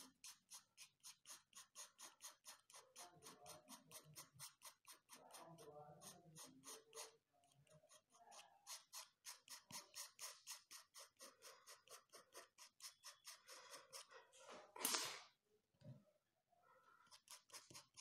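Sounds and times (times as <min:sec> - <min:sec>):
palette knife scraping paper: 0:00.0 - 0:15.0, 0:17.1 - 0:18.0.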